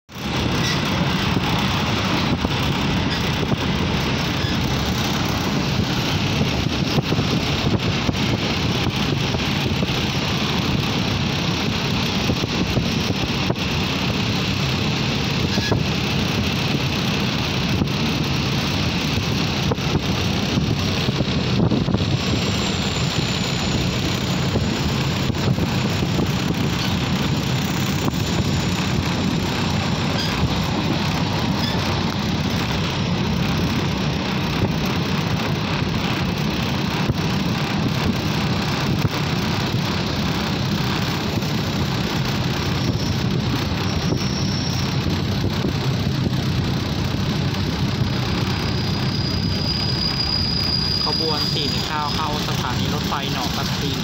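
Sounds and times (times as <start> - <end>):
train wheels rumbling on rails: 0.1 - 54.0.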